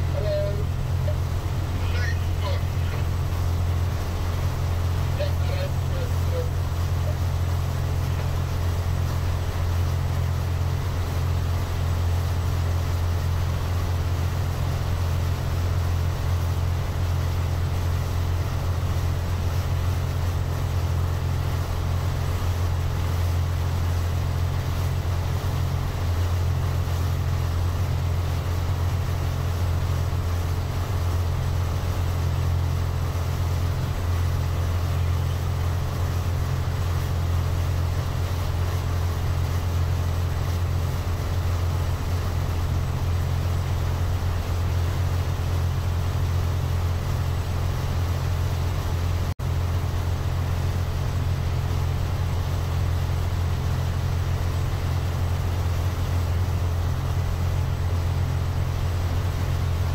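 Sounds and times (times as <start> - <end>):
boat engine drone: 0.0 - 59.9
water wash: 0.0 - 59.9.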